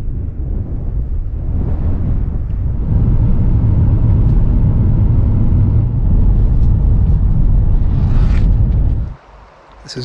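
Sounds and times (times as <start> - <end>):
road noise: 0.0 - 10.0
van engine rumble: 0.0 - 10.0.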